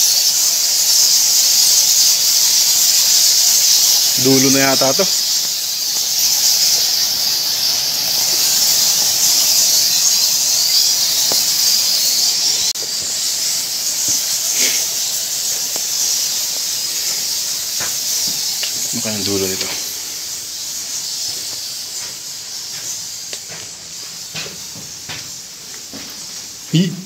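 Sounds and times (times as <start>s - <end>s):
bats squeaking: 0.0s - 27.0s.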